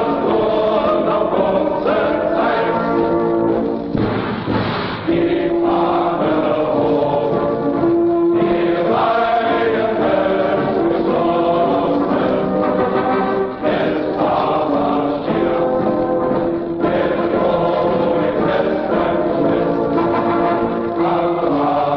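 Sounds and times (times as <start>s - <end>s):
choir chanting held notes: 0.0s - 3.9s, 5.0s - 21.9s.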